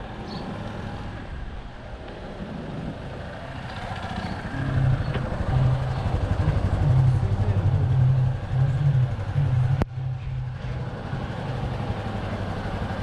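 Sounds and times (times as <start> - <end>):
vehicle engine running: 2.3 - 13.0.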